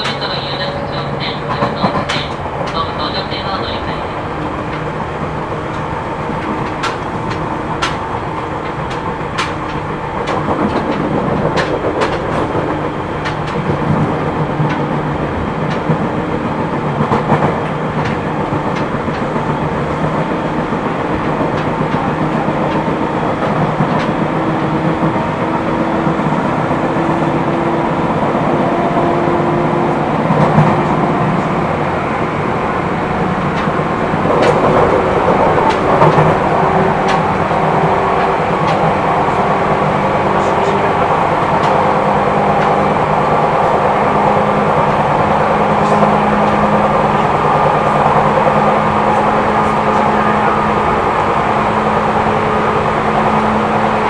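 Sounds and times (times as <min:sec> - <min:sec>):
flat wheel noise: 0:00.0 - 0:54.0
train running rumble: 0:00.0 - 0:54.0
train wheels clicking over rail joints: 0:00.0 - 0:54.0.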